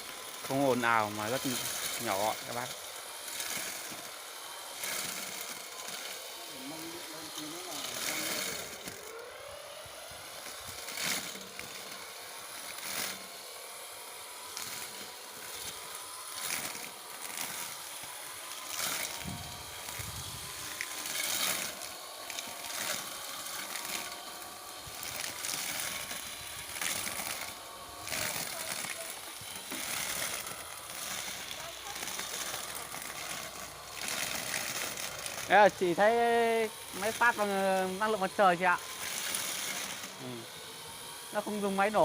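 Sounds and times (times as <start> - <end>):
cutter swishing through grass: 0.0 - 42.0
electric motor hum: 0.0 - 42.0.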